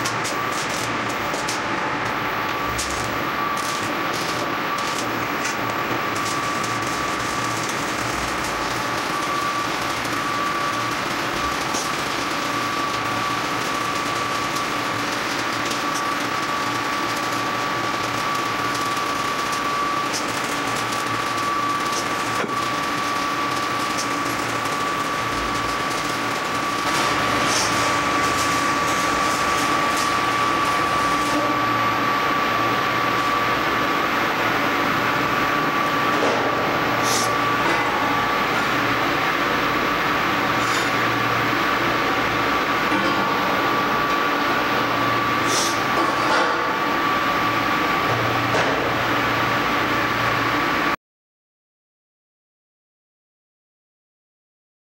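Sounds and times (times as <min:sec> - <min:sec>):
high-pitched whine: 0:00.0 - 0:51.0
welding arc crackling: 0:00.0 - 0:51.0.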